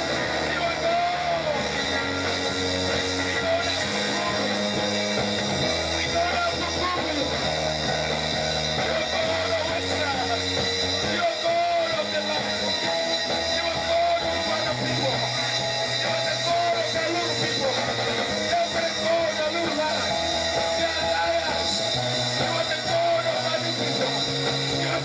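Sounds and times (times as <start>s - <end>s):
church band music: 0.0s - 25.0s.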